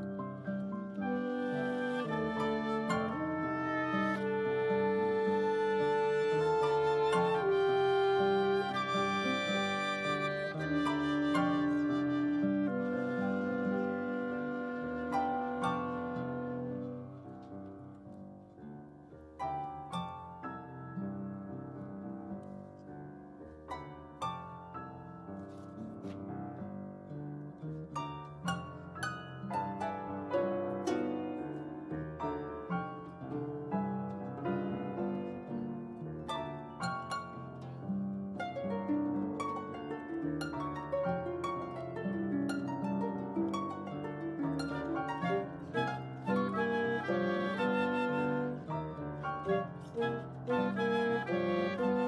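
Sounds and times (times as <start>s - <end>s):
piano: 0.0s - 52.0s
harp and guitar plucking: 0.9s - 18.3s, 27.7s - 52.0s.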